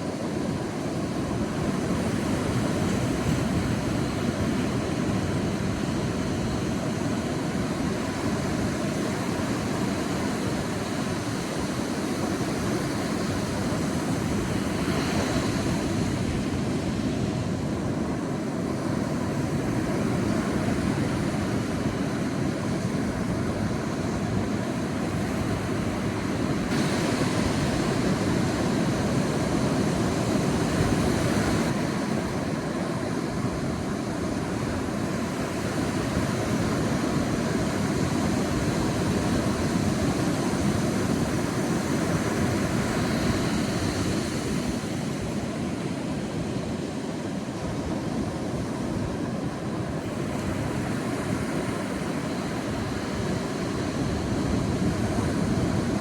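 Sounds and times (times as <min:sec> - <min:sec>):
sea surf on a beach: 0:00.0 - 0:56.0
waves washing in: 0:00.0 - 0:56.0.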